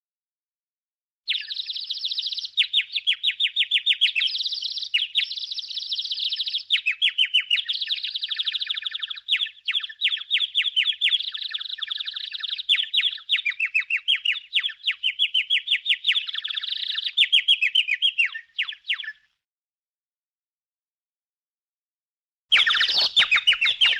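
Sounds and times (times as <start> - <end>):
cartoon birds tweeting: 1.3 - 19.1, 22.5 - 23.9.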